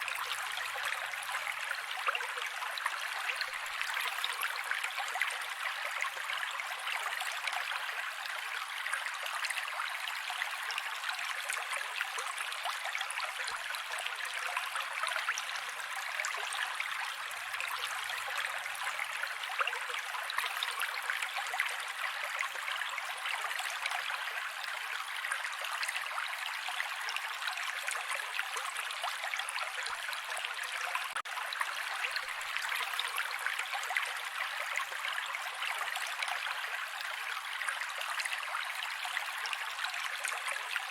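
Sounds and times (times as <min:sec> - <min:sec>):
creek water over rocks: 0:00.0 - 0:40.9.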